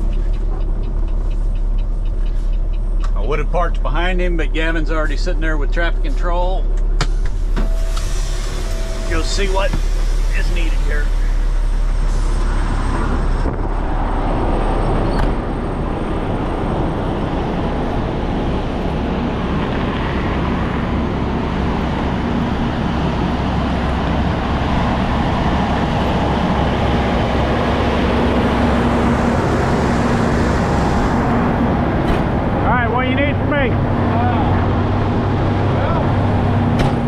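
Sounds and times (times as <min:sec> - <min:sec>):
highway traffic: 0:00.0 - 0:37.0.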